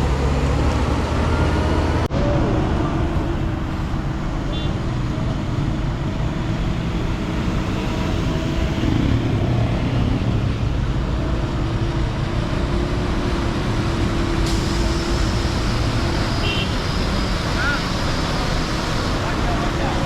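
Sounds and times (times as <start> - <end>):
tyre and road noise: 0.0 - 20.0
vehicle engine drone: 0.0 - 20.0.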